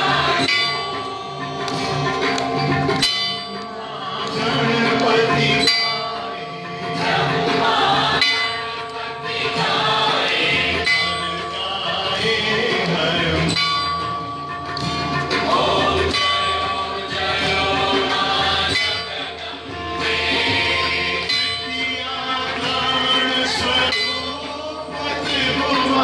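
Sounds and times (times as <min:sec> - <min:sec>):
congregation singing a hymn: 0:00.0 - 0:01.9, 0:03.5 - 0:13.6, 0:15.3 - 0:26.0
bell ringing: 0:00.0 - 0:26.0.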